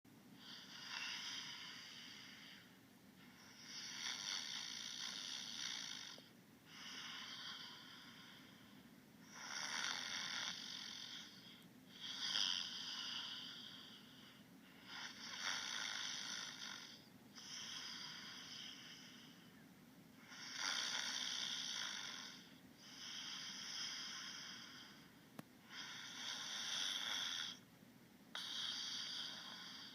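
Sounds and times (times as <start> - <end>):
person snoring: 0.4 - 2.7, 3.3 - 19.6, 20.2 - 25.1, 25.7 - 27.6, 28.3 - 29.9.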